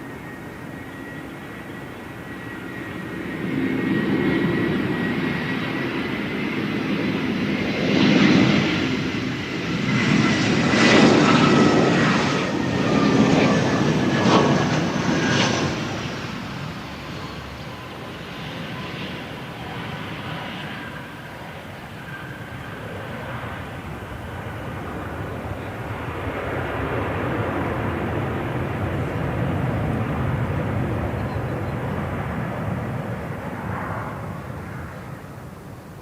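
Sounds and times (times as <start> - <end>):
jet engines fan whine and rumble: 0.0 - 36.0.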